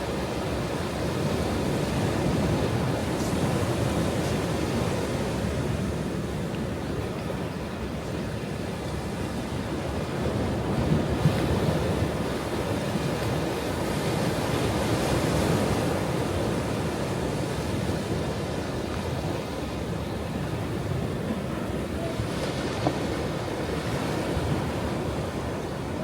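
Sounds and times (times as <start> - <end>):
ocean waves breaking on shore: 0.0 - 26.0.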